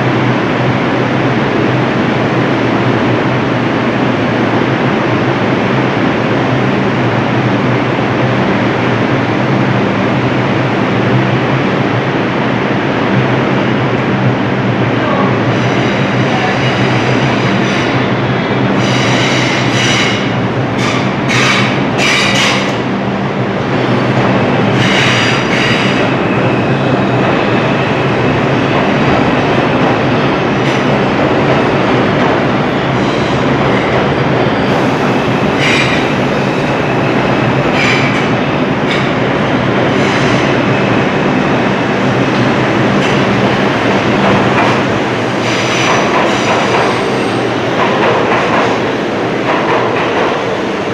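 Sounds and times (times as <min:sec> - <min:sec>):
train running on rails: 0:00.0 - 0:50.9.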